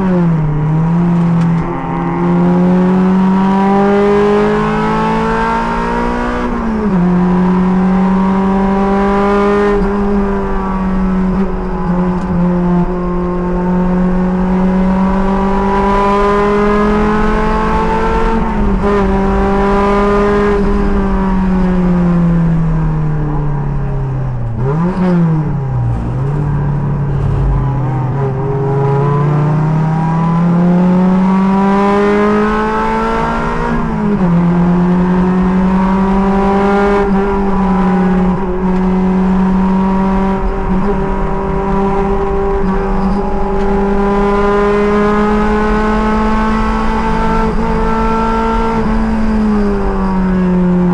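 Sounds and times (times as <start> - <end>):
sports car engine revving: 0.0 - 50.9
wind and road noise: 0.0 - 50.9.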